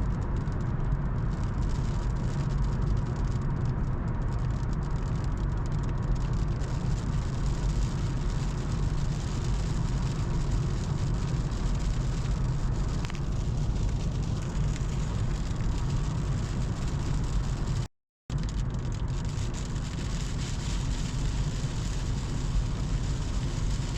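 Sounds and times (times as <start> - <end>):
car engine and road noise: 0.0 - 23.9.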